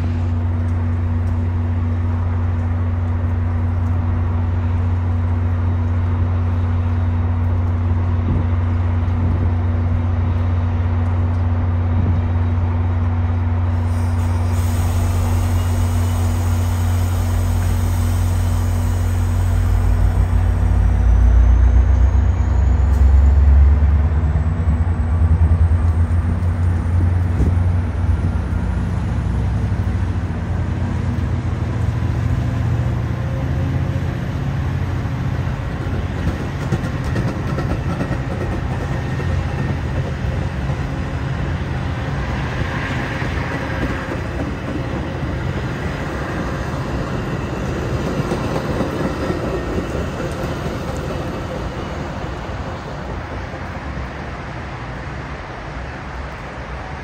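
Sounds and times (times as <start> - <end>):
train humming: 0.0 - 57.0.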